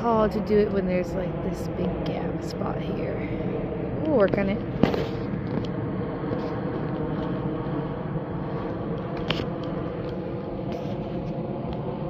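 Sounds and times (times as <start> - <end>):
droning hum: 0.0 - 12.0.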